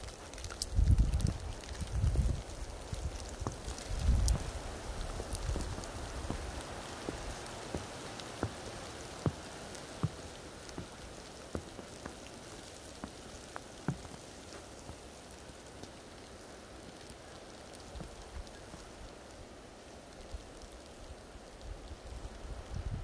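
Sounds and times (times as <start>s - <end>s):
wet snow falling hiss: 0.0s - 23.0s.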